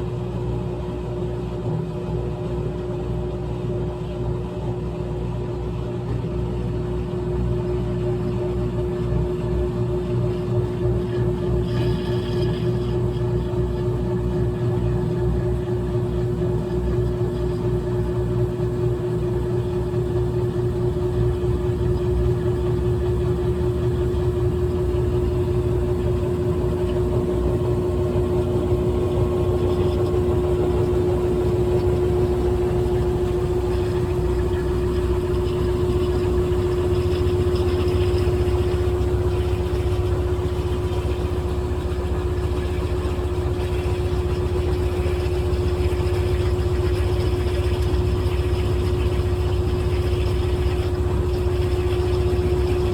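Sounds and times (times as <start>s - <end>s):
washing machine motor hum: 0.0s - 52.9s.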